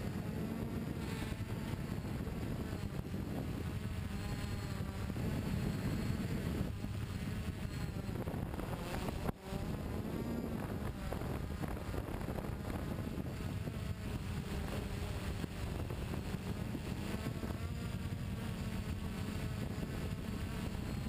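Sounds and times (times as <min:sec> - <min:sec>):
multirotor motors buzzing: 0:00.0 - 0:21.0
wind rushing over microphone: 0:00.0 - 0:21.0.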